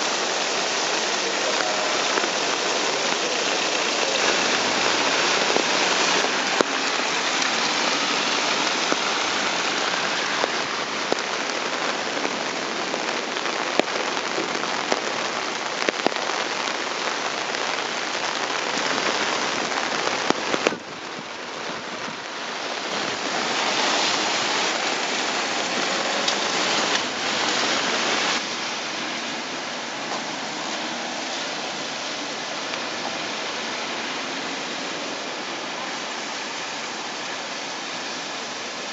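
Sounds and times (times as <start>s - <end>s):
close raindrop impacts: 0.0s - 36.3s
heavy rain on street: 0.0s - 38.9s.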